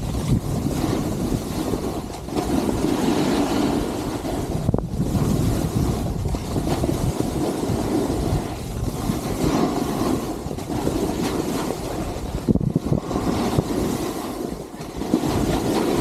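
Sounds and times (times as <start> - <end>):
skis scraping over snow: 0.0 - 16.0
wind rushing over microphone: 0.0 - 16.0.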